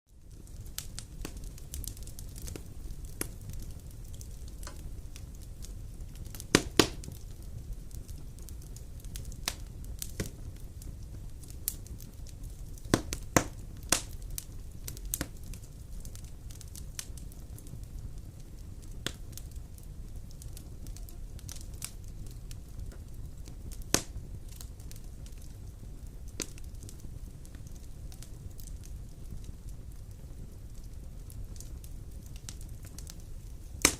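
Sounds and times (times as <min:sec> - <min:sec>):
wood fire crackling and popping: 0:00.1 - 0:33.9.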